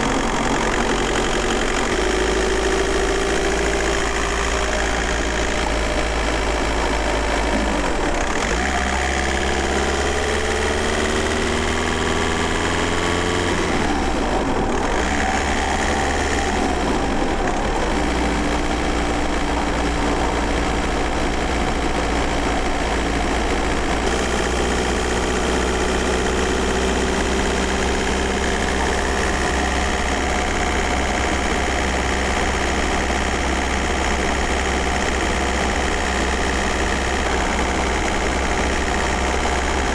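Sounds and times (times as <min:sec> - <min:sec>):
car engine running while driving: 0:00.0 - 0:39.9.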